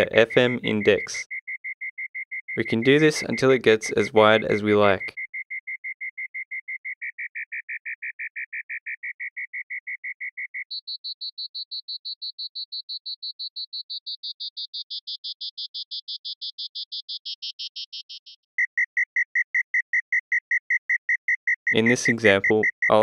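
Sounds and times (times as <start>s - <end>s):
louder synthesized chirp pulses: 0.0s - 23.0s
synthesized cricket chirp: 0.0s - 23.0s.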